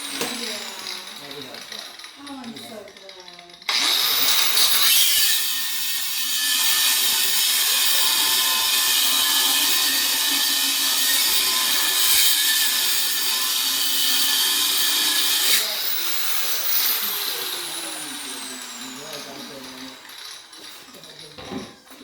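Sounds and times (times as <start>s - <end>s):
grinder cutting metal: 0.0s - 21.2s.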